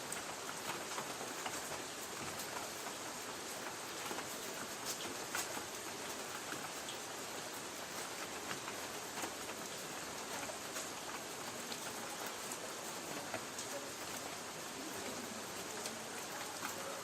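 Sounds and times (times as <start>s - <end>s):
light rain on a tin roof: 0.0s - 17.0s.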